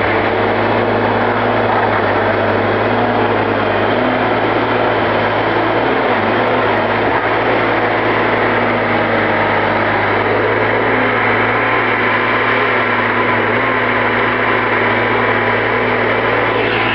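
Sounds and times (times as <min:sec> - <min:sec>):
diesel engine running steadily: 0:00.0 - 0:16.9.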